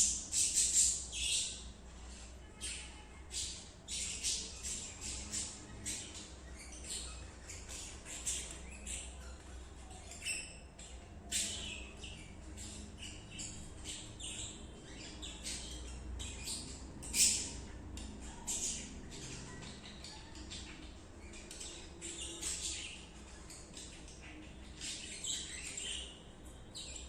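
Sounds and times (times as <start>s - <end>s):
budgerigars chirping and squawking: 0.0s - 27.0s.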